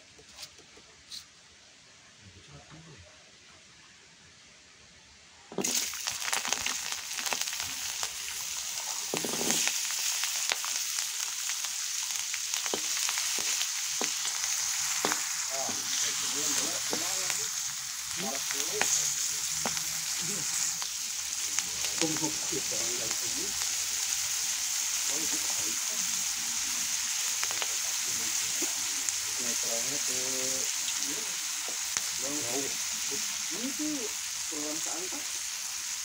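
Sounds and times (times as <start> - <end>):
food sizzling in hot oil: 5.5 - 36.0.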